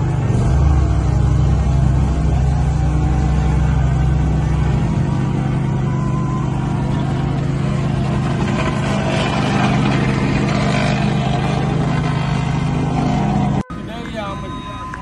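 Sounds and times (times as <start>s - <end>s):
paving machinery engine drone: 0.0s - 15.0s.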